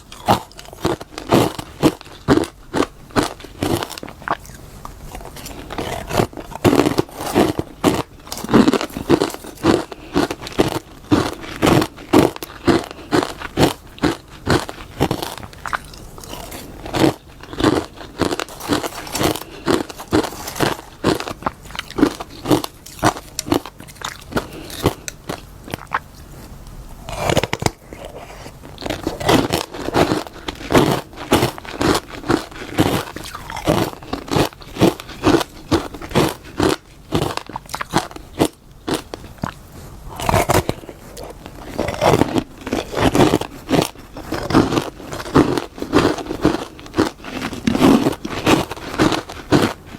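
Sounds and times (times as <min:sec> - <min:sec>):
chewing crunchy frost: 0:00.0 - 0:49.9.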